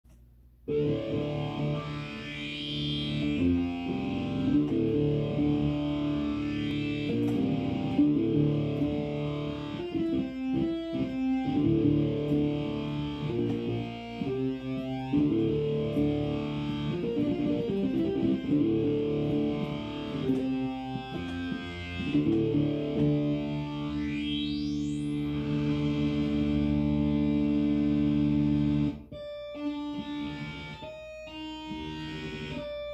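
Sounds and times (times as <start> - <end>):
distorted synthesizer chords: 0.7 - 32.9.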